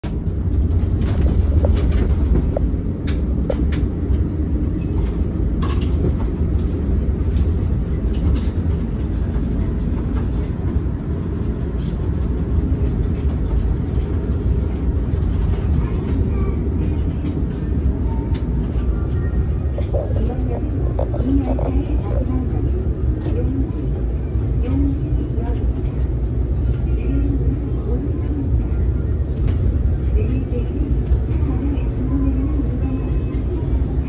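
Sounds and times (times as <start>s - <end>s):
monorail tyres rumbling: 0.1s - 34.0s.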